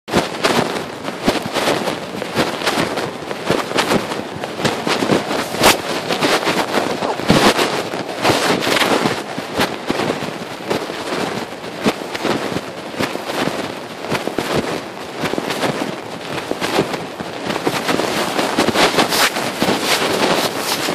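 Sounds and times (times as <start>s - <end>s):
fabric rustling against microphone: 0.1s - 20.9s.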